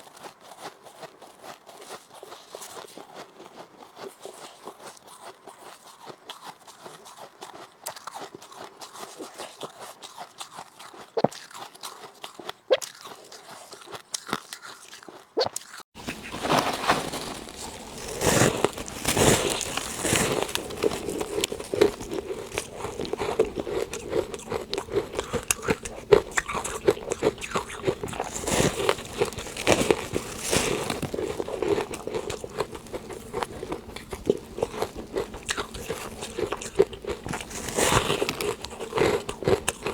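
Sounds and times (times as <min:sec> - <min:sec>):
person chewing frost: 0:00.0 - 0:39.9.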